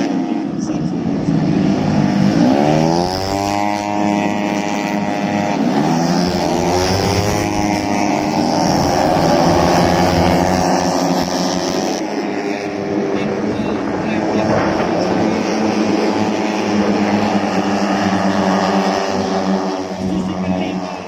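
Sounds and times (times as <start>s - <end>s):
racing motorcycle engines revving: 0.0s - 21.0s.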